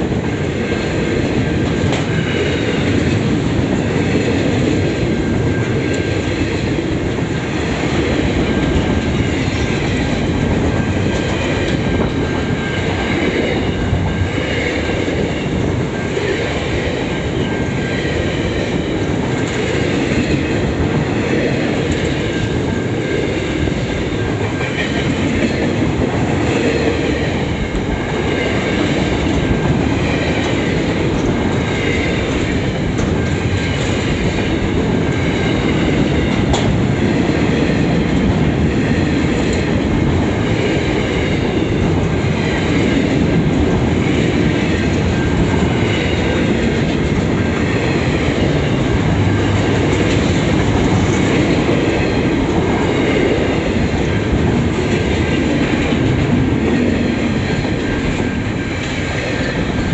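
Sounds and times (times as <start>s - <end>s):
train wheels running over rails: 0.0s - 59.9s.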